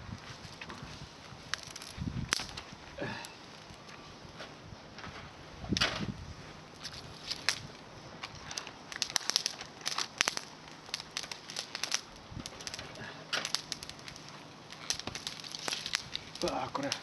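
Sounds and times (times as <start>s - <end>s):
twig fire crackling: 0.0s - 17.0s.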